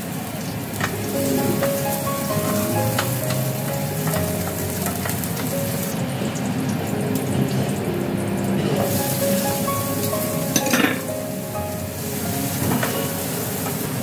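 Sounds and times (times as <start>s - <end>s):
garlic sizzling in oil: 0.0s - 14.0s
background music with held notes: 0.7s - 14.0s.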